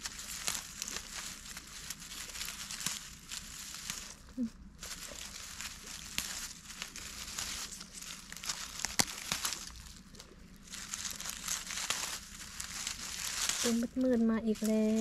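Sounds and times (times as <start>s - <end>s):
dry grass and leaves rustling: 0.0s - 15.0s.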